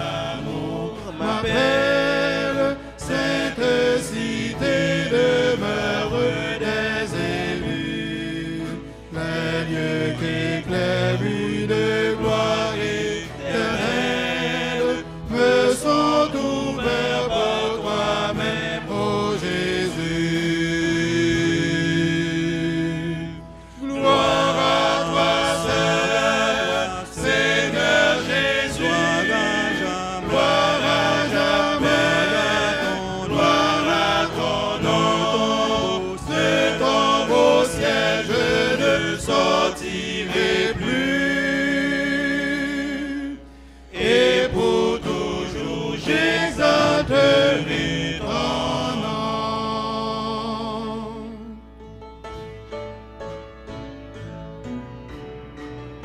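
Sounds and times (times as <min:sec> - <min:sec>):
congregation singing a hymn: 0:00.0 - 0:51.8.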